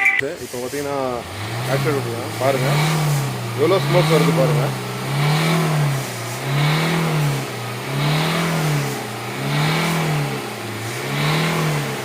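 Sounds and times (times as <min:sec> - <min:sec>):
car engine revving: 0:00.4 - 0:12.0.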